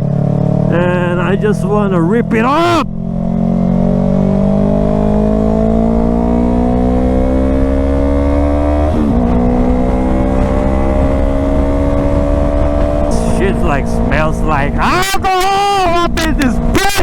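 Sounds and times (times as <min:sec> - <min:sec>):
motorcycle engine accelerating: 0:00.0 - 0:17.0
wind rumble on microphone: 0:02.9 - 0:17.0.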